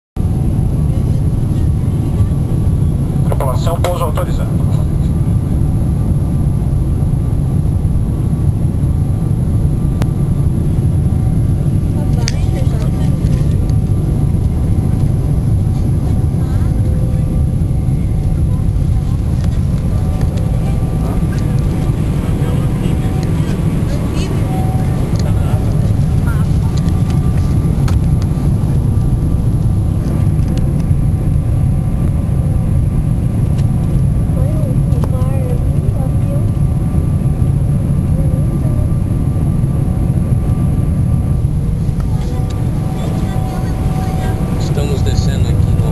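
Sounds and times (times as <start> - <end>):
airliner cabin rumble: 0.2 - 45.9
faint steady whine: 0.2 - 45.9.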